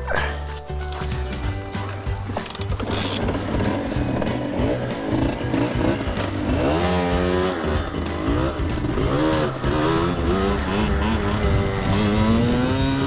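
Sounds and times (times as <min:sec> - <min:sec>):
music: 0:00.0 - 0:13.0
motorcycle engine revving: 0:01.4 - 0:13.0.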